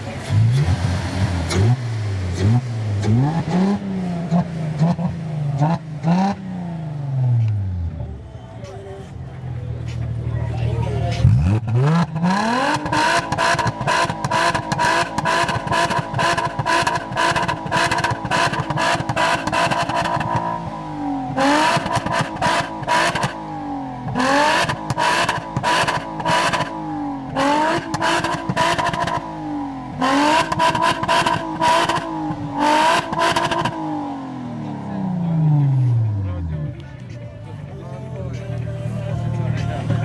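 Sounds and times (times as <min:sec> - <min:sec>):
car engine revving with stutter: 0:00.0 - 0:08.0, 0:11.1 - 0:36.8.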